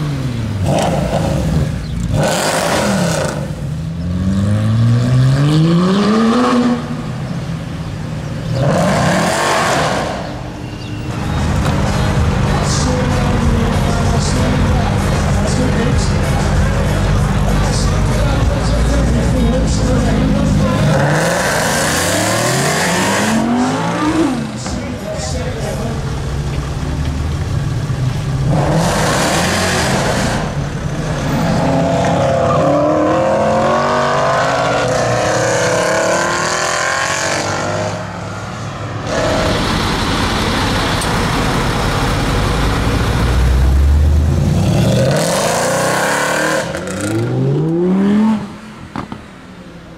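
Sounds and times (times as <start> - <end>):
car engine revving and accelerating: 0.0 - 10.4, 11.2 - 49.3.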